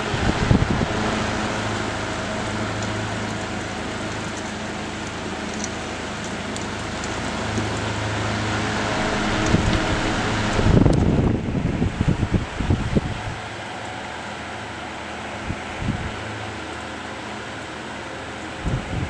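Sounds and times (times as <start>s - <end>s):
air buffeting microphone: 0.0s - 16.5s, 18.5s - 19.0s
fan blades rushing air: 0.0s - 19.0s
low motor hum: 0.0s - 19.0s.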